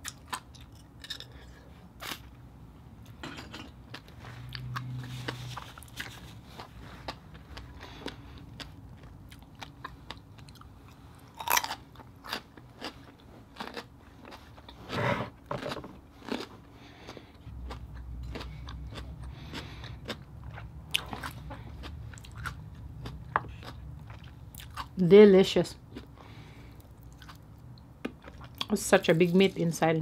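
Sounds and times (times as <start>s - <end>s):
close chewing with mouth clicks: 0.0s - 2.3s, 3.9s - 14.9s, 15.6s - 25.0s, 25.9s - 28.8s.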